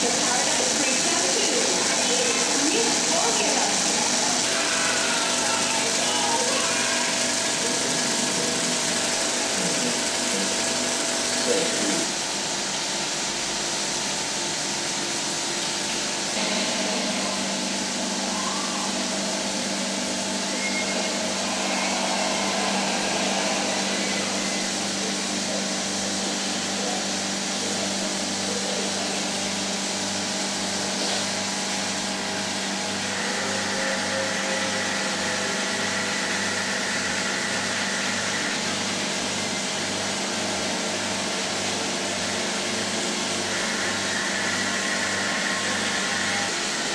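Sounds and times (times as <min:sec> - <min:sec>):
film projector mechanical hum: 0:00.0 - 0:46.9.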